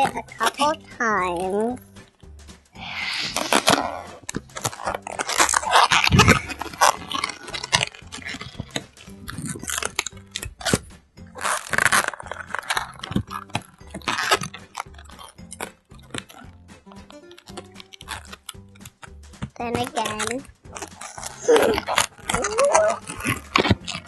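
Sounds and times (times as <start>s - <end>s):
balloon squeaking and crackling: 0.0s - 24.0s.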